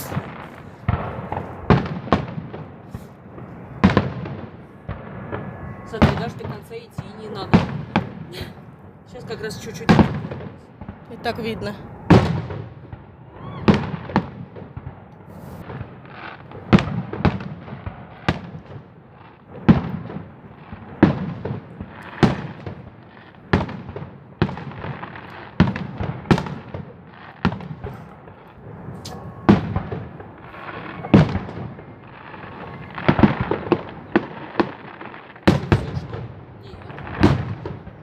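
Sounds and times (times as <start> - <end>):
fireworks bangs: 0.0 - 38.0
fireworks crackling: 0.0 - 38.0.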